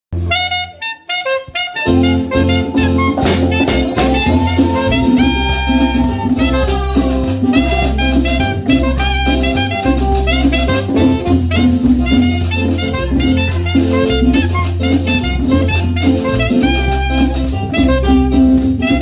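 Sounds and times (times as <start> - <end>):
saxophone playing: 0.2 - 19.0
bass and drums backing track: 1.5 - 19.0.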